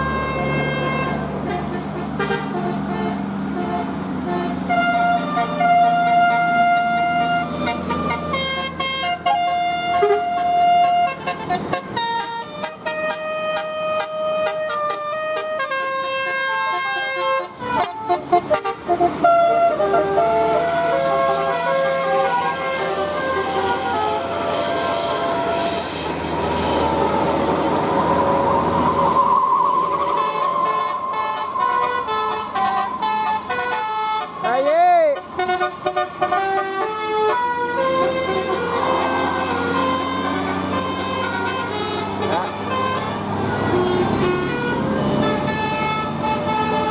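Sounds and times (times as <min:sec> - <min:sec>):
multi-tone musical air horn: 0:00.0 - 0:46.9.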